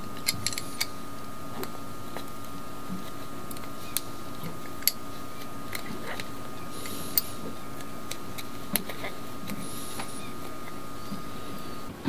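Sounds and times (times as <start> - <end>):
faint steady hum: 0.0 - 12.0
small metal clicks: 0.1 - 1.0, 1.6 - 10.8.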